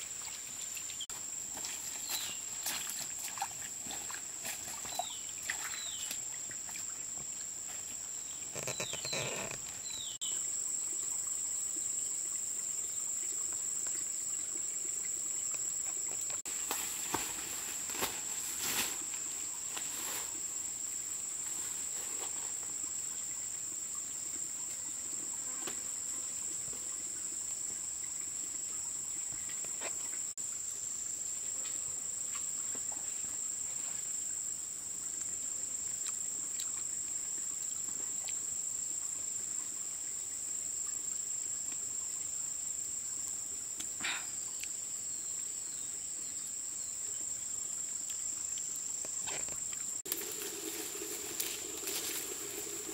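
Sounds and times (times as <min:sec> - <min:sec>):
insect chorus drone: 0:00.0 - 0:52.9.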